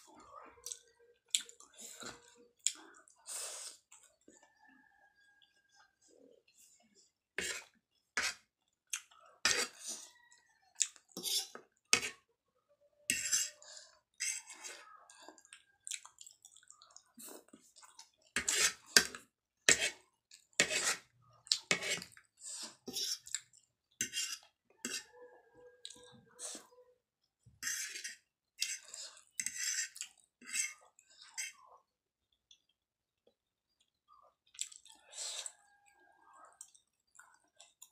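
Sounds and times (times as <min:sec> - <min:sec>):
chewing: 0:00.2 - 0:07.0, 0:07.6 - 0:12.2, 0:13.6 - 0:19.2, 0:19.9 - 0:26.8, 0:28.6 - 0:31.9, 0:32.5 - 0:37.9.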